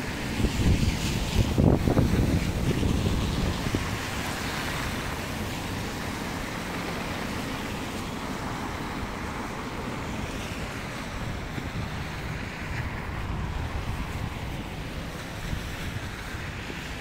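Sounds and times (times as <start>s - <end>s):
wind on microphone: 0.0s - 6.8s, 9.8s - 17.0s
cars driving on slushy road: 0.0s - 17.0s.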